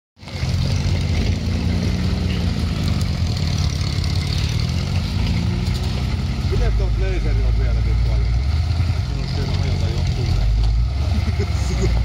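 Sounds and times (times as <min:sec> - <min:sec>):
diesel engine running at low revs: 0:00.2 - 0:12.0.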